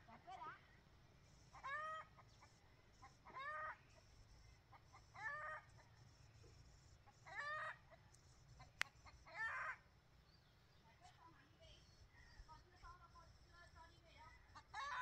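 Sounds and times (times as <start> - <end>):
bird calling: 0.0 - 15.0.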